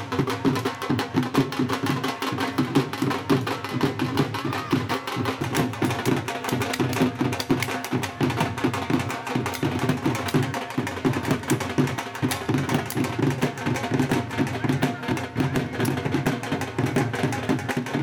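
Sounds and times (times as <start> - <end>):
dhol drums: 0.0 - 18.0.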